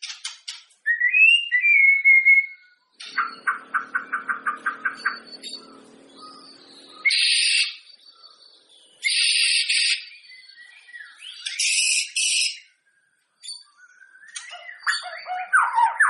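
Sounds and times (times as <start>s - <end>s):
soft bird chirps: 0.0s - 16.0s
bird singing high-pitched phrases: 0.8s - 16.0s.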